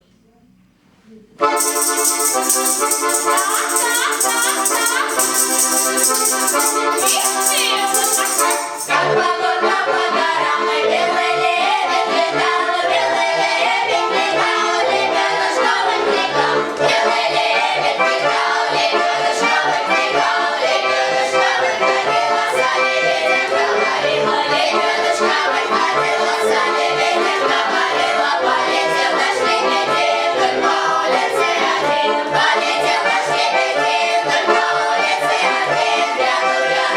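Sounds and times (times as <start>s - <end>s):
accordion folk song: 1.4s - 36.9s.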